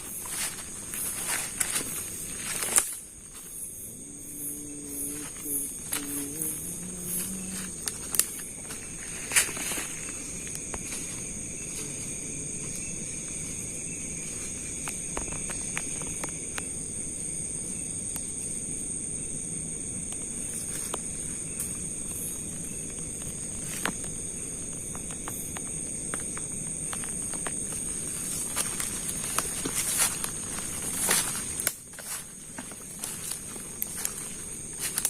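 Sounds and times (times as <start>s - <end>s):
insect chorus drone: 0.0s - 35.0s.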